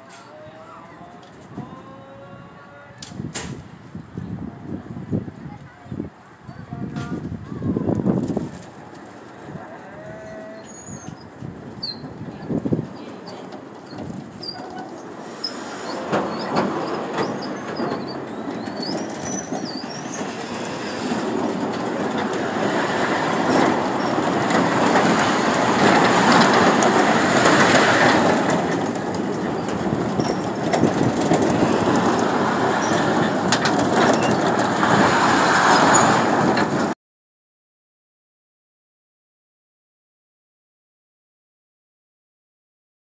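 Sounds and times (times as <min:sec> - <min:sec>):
fairground ride rumble and rattle: 0:00.0 - 0:37.0.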